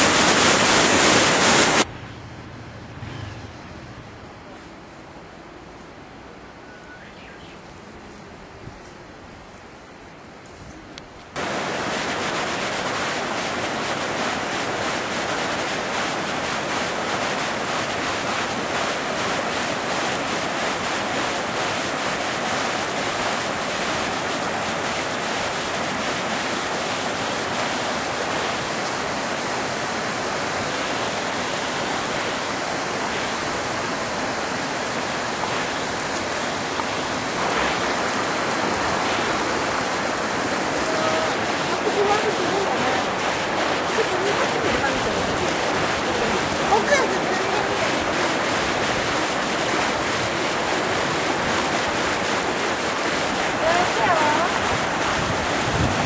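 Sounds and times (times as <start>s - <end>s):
river rushing over rocks: 0.0s - 1.9s, 11.3s - 56.0s.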